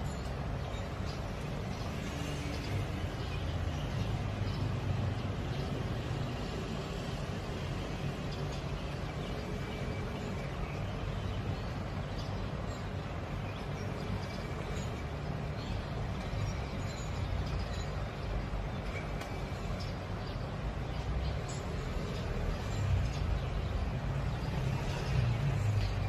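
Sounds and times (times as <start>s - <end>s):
outdoor background rumble: 0.0s - 26.0s.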